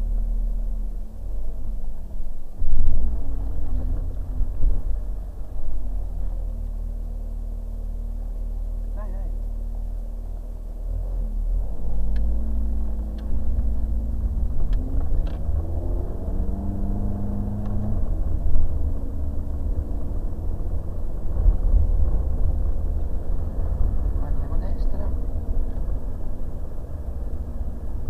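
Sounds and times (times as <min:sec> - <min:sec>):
car engine while driving: 0:00.0 - 0:28.0
low rumble: 0:00.0 - 0:28.0.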